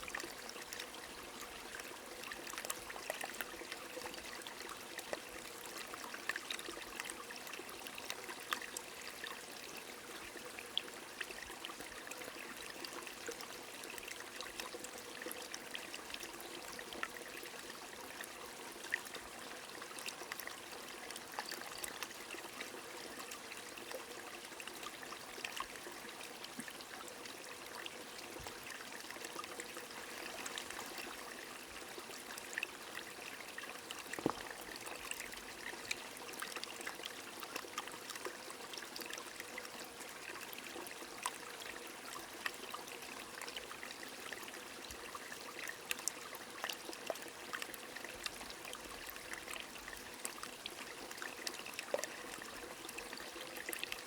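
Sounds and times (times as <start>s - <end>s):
gentle rain: 0.0s - 54.0s
stream flowing: 0.0s - 54.0s.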